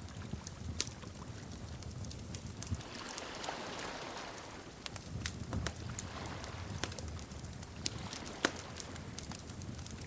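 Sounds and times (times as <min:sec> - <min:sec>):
fire crackling and popping: 0:00.0 - 0:10.0
low rumble of flames: 0:00.0 - 0:10.0.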